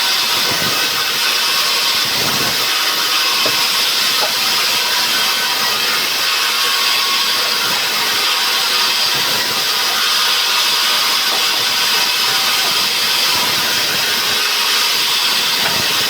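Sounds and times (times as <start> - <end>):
saw cutting log: 0.0 - 16.0.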